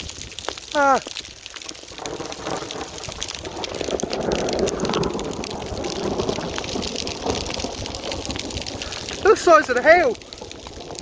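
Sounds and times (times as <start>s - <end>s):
hailstones hitting hard surfaces: 0.0s - 11.0s
heavy rain: 0.0s - 11.0s.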